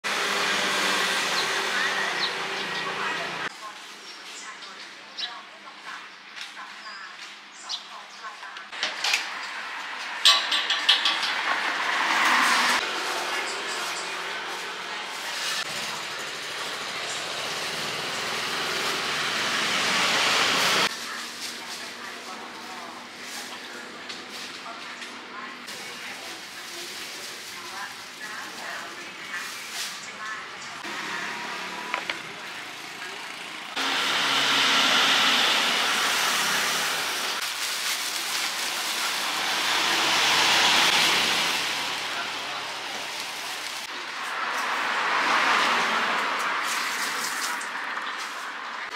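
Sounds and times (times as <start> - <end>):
traffic passing close by: 0.0 - 3.6, 8.7 - 48.9.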